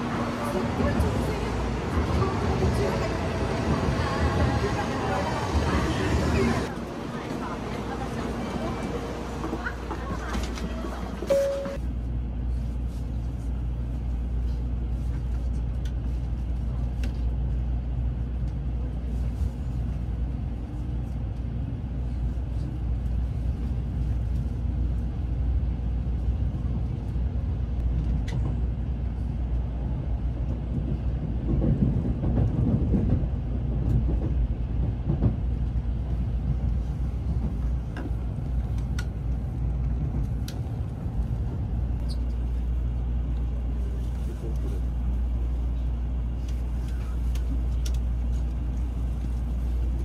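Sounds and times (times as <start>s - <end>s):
train carriage rumble: 0.0s - 50.0s.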